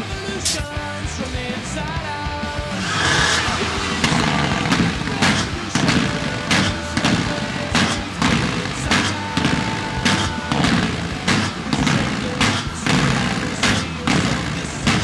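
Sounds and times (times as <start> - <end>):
thumping drum beat: 0.4 - 15.0.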